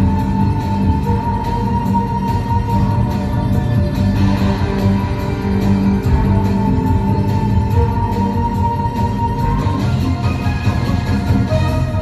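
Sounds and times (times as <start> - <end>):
pulsing bass: 0.0 - 12.0.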